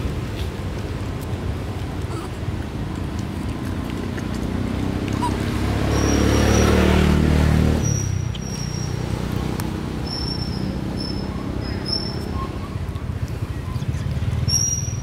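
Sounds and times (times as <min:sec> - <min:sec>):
engine passing by: 0:00.0 - 0:15.0.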